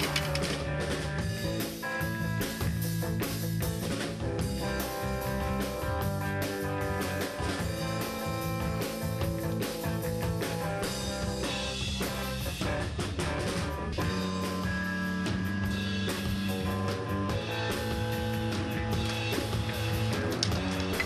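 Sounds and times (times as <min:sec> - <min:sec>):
music with guitar and drums: 0:00.0 - 0:21.0.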